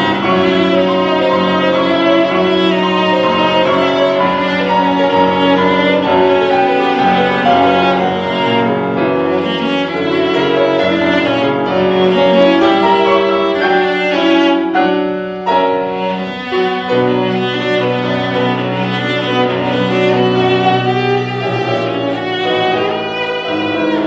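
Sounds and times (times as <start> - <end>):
cello melody: 0.0 - 24.0
piano accompaniment: 0.0 - 24.0.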